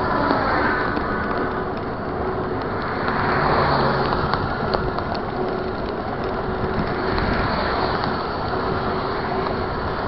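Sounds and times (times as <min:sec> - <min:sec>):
bicycle tyre noise: 0:00.0 - 0:10.0
small ticks: 0:00.0 - 0:10.0
wind and rain on microphone: 0:00.0 - 0:10.0.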